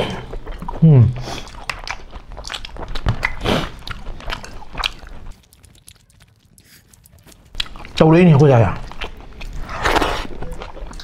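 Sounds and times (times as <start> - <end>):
wet chewing and mouth clicks: 0.0 - 11.0.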